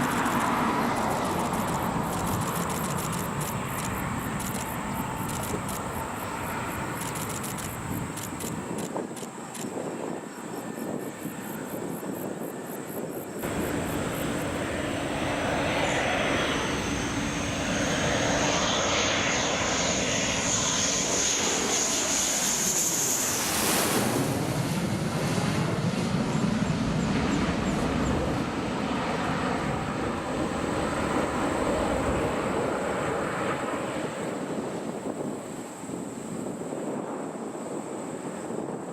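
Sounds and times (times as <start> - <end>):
fighter jet passing overhead: 0.0 - 38.9.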